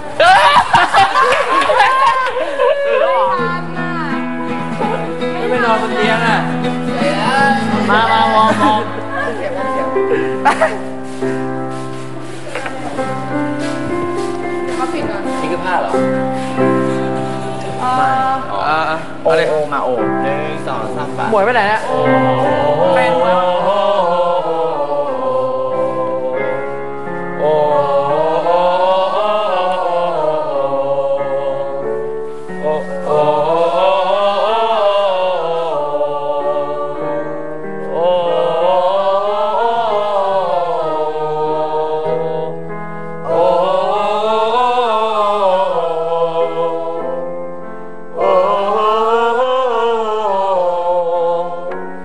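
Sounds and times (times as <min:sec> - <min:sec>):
group singing vocal scales: 0:00.0 - 0:52.0.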